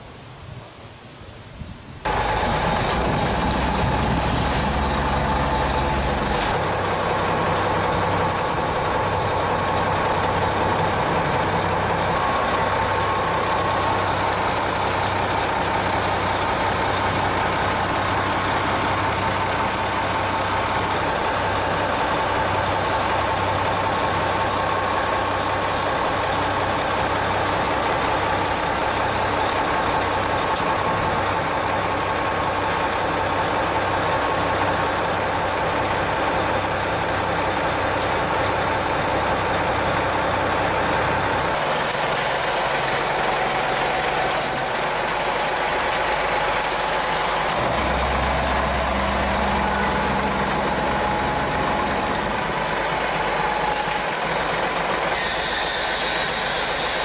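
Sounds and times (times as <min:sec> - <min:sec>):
truck engine idling: 0:02.0 - 0:57.0.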